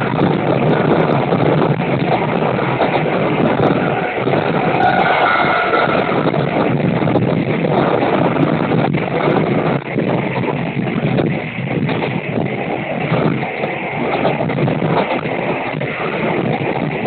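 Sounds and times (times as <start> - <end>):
train running noise: 0.0 - 17.0
wind buffeting microphone: 0.0 - 17.0.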